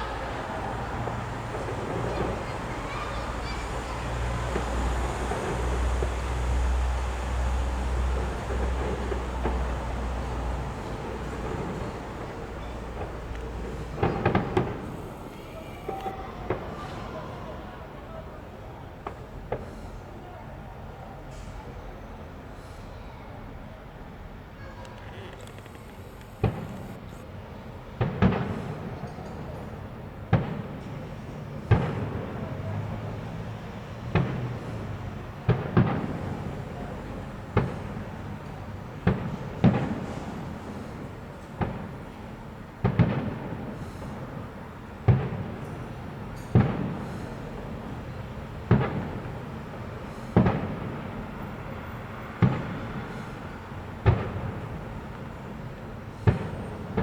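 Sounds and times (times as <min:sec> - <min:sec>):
fireworks bangs with echo: 0:00.0 - 0:22.0, 0:26.0 - 0:57.0.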